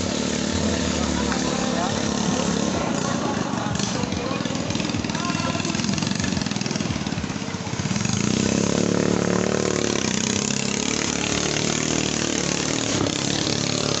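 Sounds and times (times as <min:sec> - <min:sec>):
boat engine running hard: 0:00.0 - 0:14.0.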